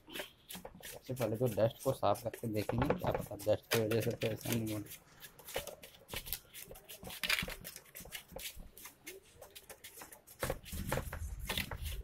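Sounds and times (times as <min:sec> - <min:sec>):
brush scratching on glass: 0:00.0 - 0:07.2, 0:07.8 - 0:12.0.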